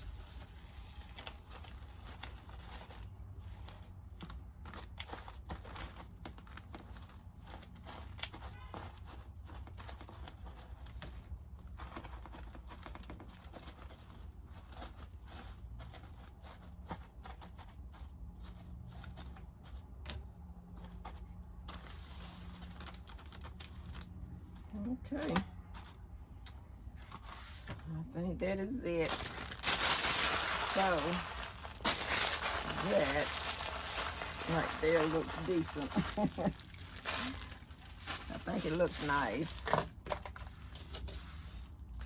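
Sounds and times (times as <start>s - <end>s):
paper shred crinkling: 0.0s - 20.0s, 20.7s - 26.0s, 28.8s - 42.0s.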